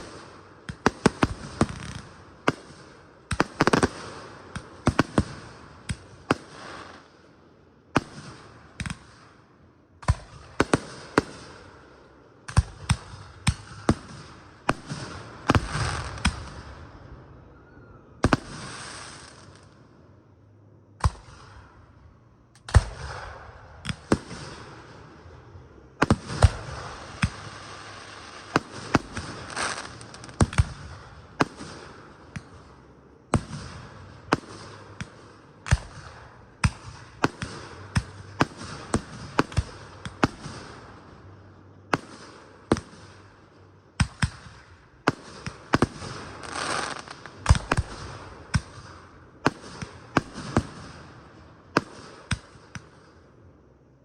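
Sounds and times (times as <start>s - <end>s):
fireworks bursting: 0.0s - 7.4s, 8.0s - 19.8s, 21.0s - 22.0s, 22.6s - 53.4s
continuous hiss: 0.0s - 54.0s.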